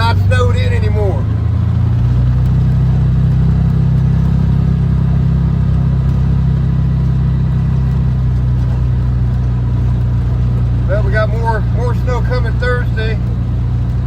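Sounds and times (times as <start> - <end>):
vehicle engine and road drone: 0.0 - 14.0.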